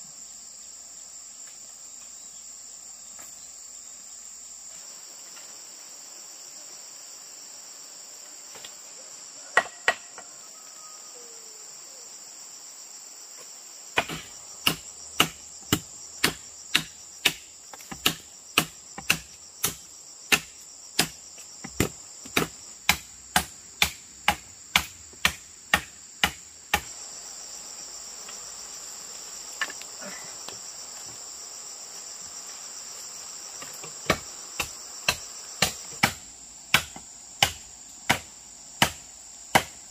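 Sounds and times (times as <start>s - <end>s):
high insect chorus: 0.0s - 39.9s.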